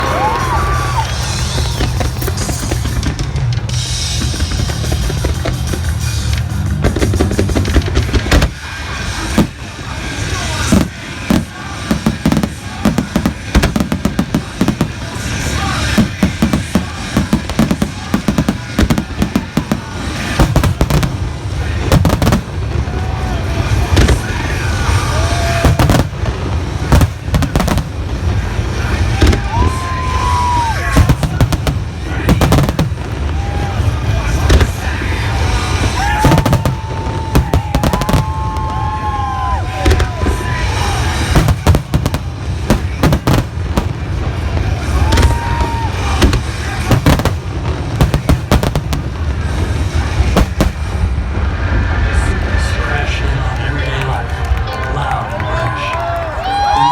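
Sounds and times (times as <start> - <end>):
music: 0.0 - 51.2
fireworks bangs and crackles: 0.0 - 56.9.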